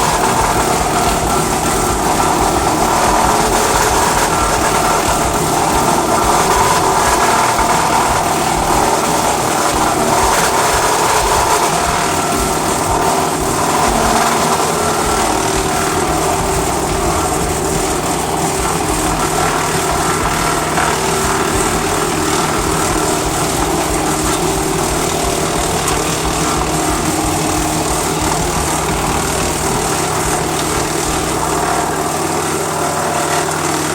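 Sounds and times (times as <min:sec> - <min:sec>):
wood chipper running: 0:00.0 - 0:33.9.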